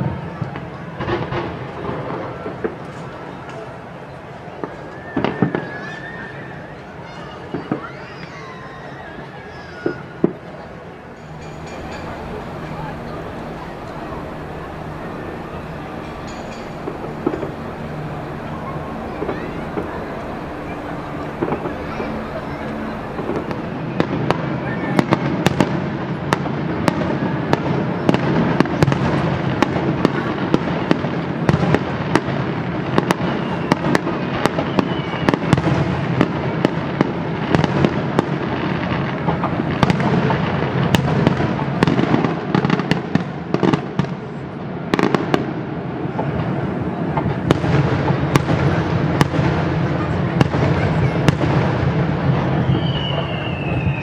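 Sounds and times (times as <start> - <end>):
fireworks cracks and crackles: 0.0 - 6.0, 7.0 - 8.4, 9.6 - 54.0
fireworks barrage rumble: 0.0 - 8.4, 9.1 - 54.0.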